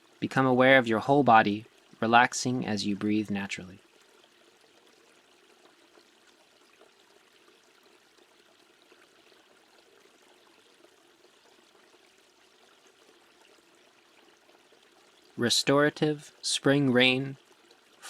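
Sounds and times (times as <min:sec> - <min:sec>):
faint running water: 0:00.0 - 0:18.0.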